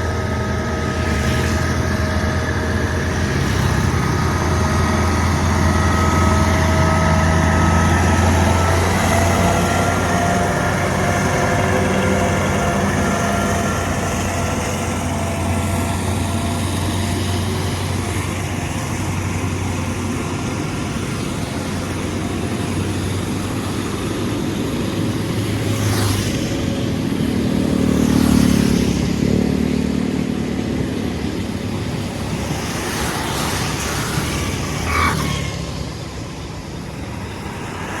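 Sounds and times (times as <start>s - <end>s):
diesel locomotive engine drone: 0.0s - 38.0s
train rumbling on track: 0.0s - 38.0s.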